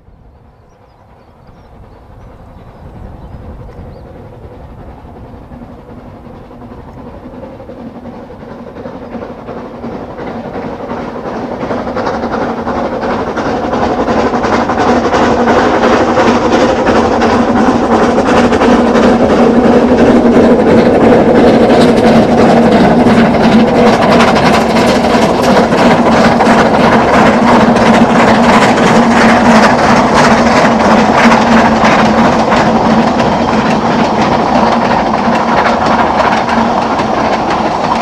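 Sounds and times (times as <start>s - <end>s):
steam train passing: 0.0s - 38.0s.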